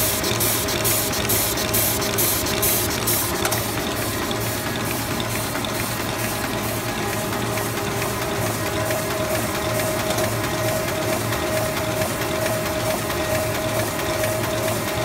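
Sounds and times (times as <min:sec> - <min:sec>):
printing press running: 0:00.0 - 0:15.0.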